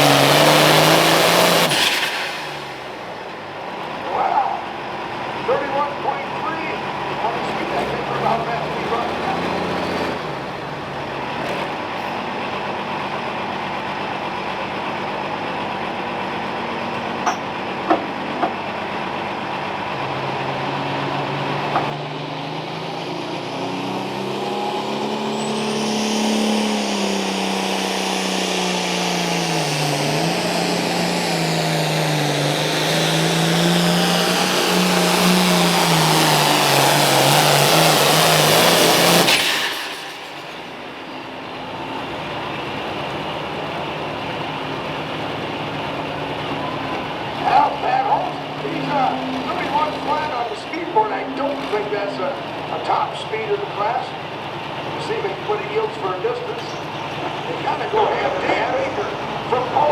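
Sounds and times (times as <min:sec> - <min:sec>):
tractor diesel engine flat out: 0:00.0 - 0:59.9.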